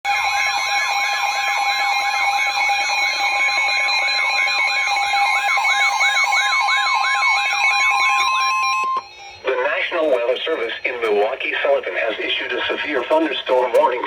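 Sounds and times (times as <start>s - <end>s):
steady high warning tones: 0.1s - 14.0s
warbling alarm: 0.1s - 14.0s.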